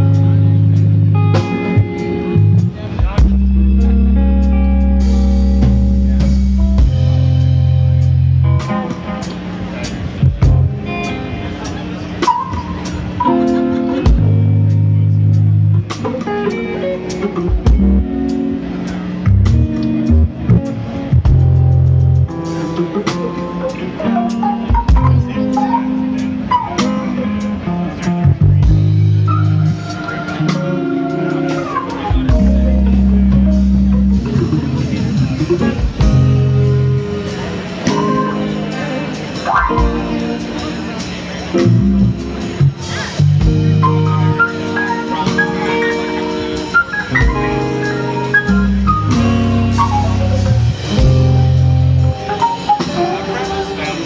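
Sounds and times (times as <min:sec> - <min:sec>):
bass notes: 0:00.0 - 0:54.0
drum kit: 0:00.0 - 0:54.0
electric guitar: 0:00.0 - 0:54.0
keyboard: 0:00.0 - 0:54.0.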